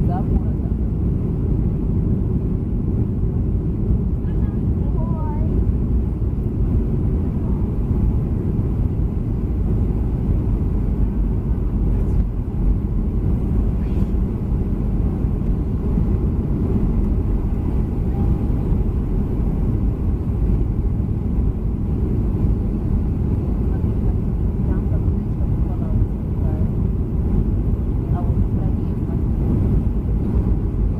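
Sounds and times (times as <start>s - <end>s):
airliner cabin rumble: 0.0s - 30.9s.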